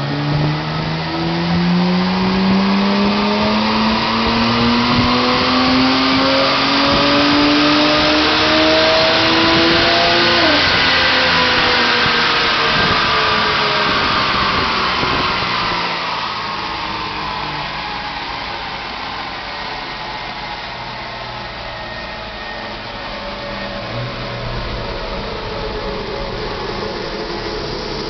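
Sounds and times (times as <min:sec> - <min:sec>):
car engine revving at full throttle: 0:00.0 - 0:28.0.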